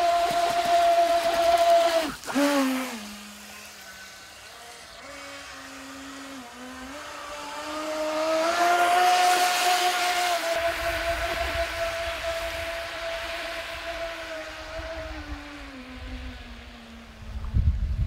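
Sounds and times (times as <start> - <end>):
electric boat motor whining: 0.0 - 17.9.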